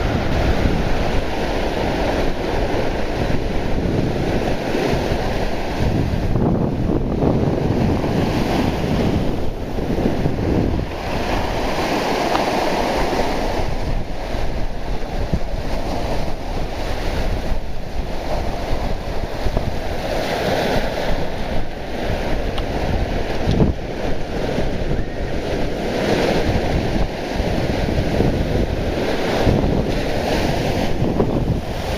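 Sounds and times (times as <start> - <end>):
sea surf breaking: 0.0 - 31.9
wind buffeting microphone: 0.0 - 31.9.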